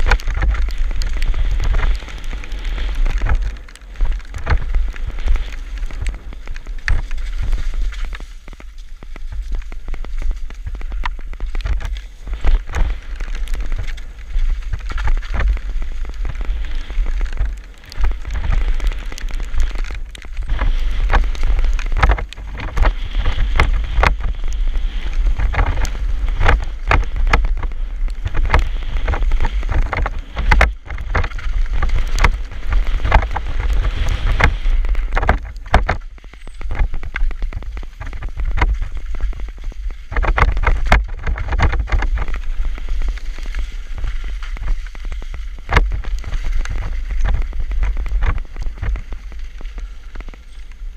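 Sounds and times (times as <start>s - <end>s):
bike rattling and knocking: 0.0s - 50.9s
tyres crunching over gravel: 0.0s - 50.9s
wind buffeting microphone: 0.0s - 50.9s.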